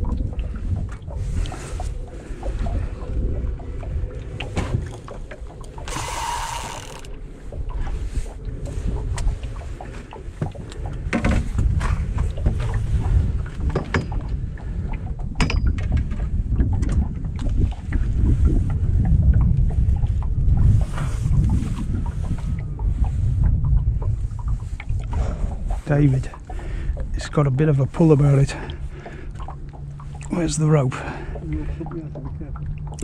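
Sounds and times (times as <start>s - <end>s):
water lapping against boat hull: 0.0s - 33.0s
wind buffeting microphone: 0.0s - 33.0s.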